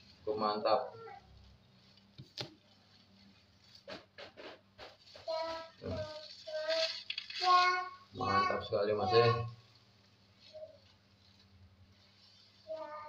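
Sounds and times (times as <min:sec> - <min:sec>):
plastic wrapping rustling: 0:00.0 - 0:13.0.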